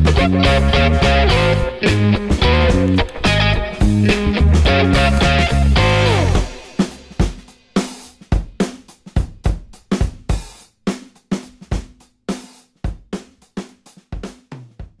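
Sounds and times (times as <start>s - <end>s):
drum kit playing steady beat: 0.0s - 15.0s.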